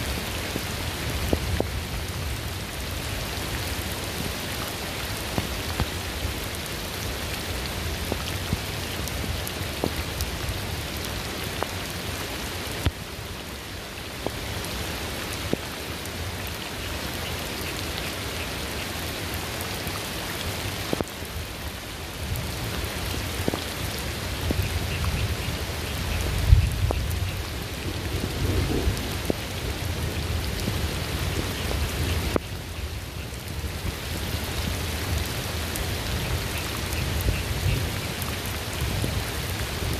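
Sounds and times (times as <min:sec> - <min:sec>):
rain falling: 0:00.0 - 0:39.9
raindrops ticking: 0:00.0 - 0:39.9.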